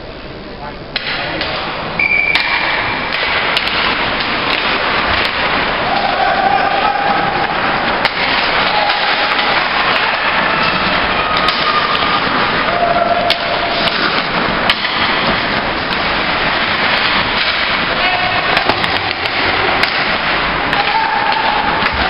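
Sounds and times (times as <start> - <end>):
hockey sticks and puck clacking: 0.9 - 22.0
players calling: 2.0 - 22.0
rink noise: 2.0 - 22.0.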